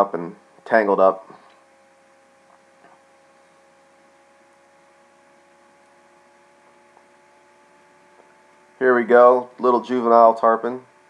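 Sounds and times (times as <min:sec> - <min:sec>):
faint electrical hum: 0:00.0 - 0:11.0
steady tones: 0:00.0 - 0:11.0.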